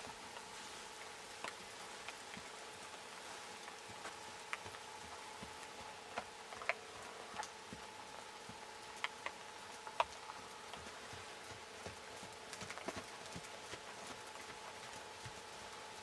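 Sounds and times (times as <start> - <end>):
faint hum and hiss: 0.0 - 16.0
horse hooves trotting on sand: 0.0 - 16.0.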